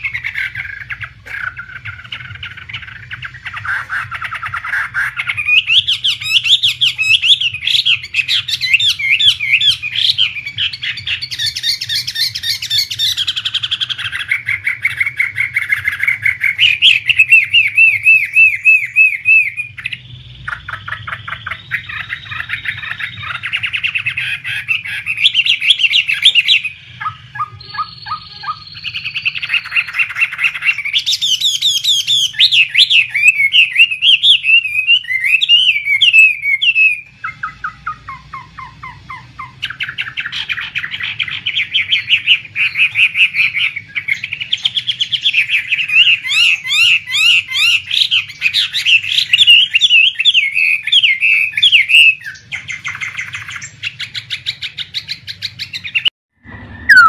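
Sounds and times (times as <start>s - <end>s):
songbird singing whistled phrases: 0.0s - 56.1s, 56.8s - 57.0s.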